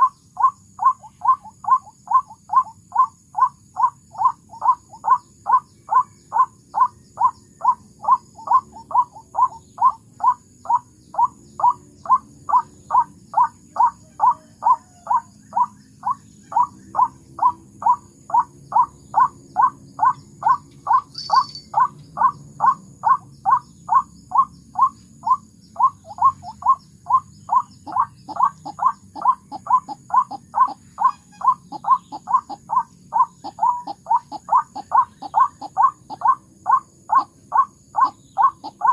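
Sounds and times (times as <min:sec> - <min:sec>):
waterhen calls: 0:00.0 - 0:38.9.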